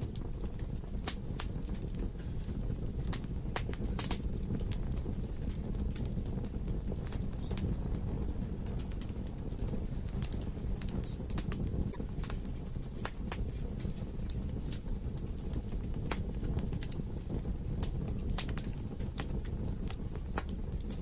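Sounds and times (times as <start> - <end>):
fire crackling and popping: 0.0 - 21.0
logs burning in fireplace: 0.0 - 21.0.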